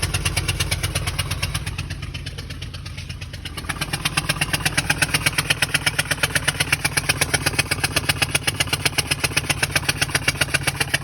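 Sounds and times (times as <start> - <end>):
rapid engine knocking: 0.0 - 11.0
van engine idling: 0.0 - 11.0.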